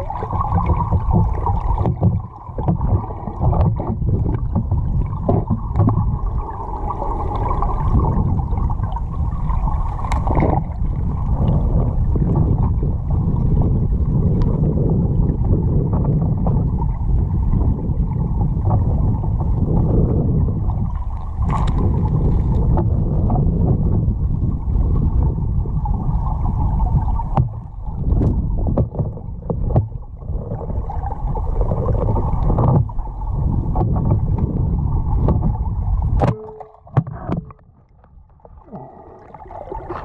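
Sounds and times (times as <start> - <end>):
muffled underwater river rush: 0.0 - 40.0.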